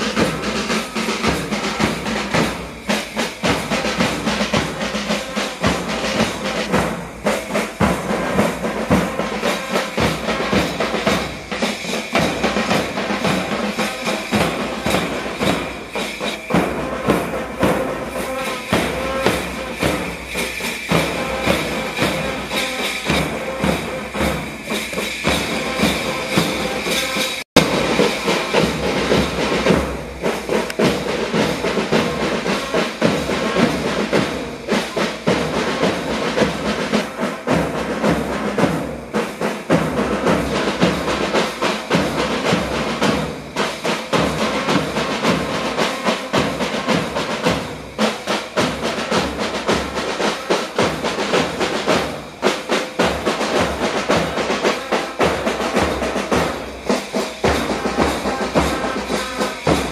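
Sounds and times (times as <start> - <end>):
fast dense drumming: 0.0 - 59.9
school band playing: 0.0 - 59.9.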